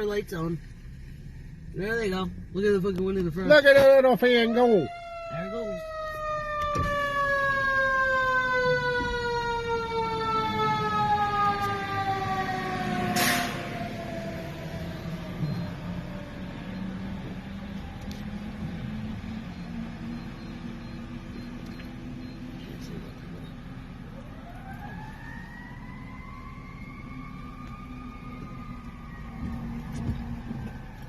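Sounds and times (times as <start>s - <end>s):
truck engine rumble: 0.0s - 31.0s
fire engine siren winding down: 4.2s - 31.0s.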